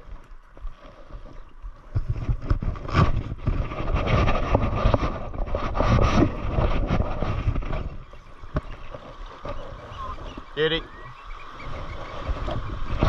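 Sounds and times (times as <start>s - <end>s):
wind buffeting microphone: 1.3s - 13.0s.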